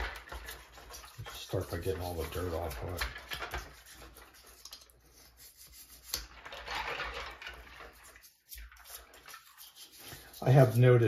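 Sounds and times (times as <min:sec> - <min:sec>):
toothbrush scrubbing keycaps in water: 0:00.0 - 0:11.0.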